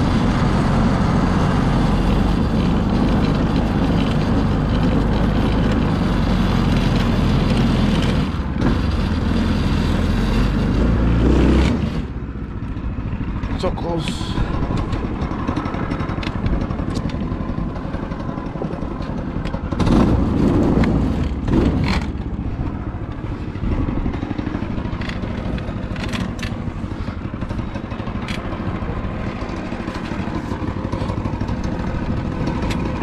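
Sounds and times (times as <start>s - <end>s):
go-kart engine running: 0.0s - 33.0s.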